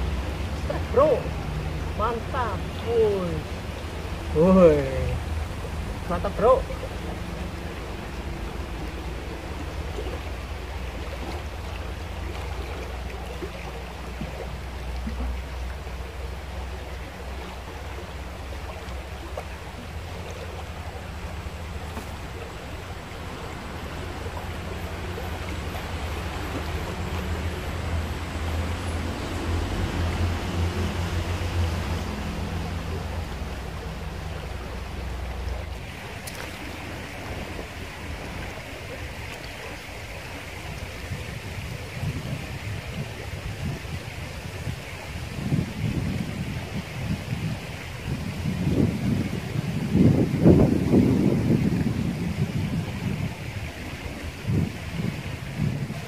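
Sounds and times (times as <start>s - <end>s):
river flowing over rocks: 0.0s - 56.0s
wind rumbling on microphone: 0.0s - 56.0s.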